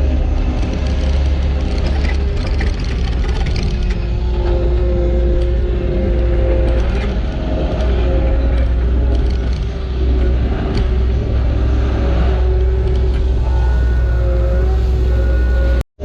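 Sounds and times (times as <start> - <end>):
diesel engine rumbling under load: 0.0 - 15.8.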